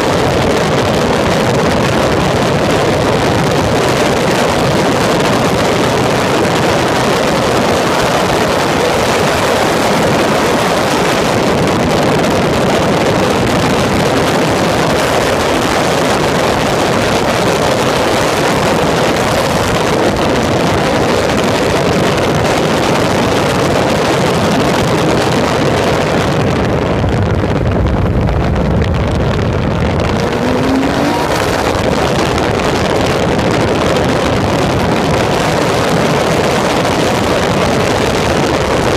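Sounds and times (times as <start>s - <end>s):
race car engine at speed: 0.0s - 38.9s
wind rush on microphone: 0.0s - 38.9s.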